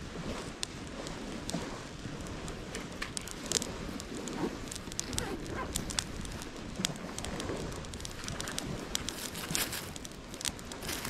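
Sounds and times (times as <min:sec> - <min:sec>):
low rush of wind: 0:00.0 - 0:11.0
sharp crackles and clicks: 0:00.0 - 0:11.0.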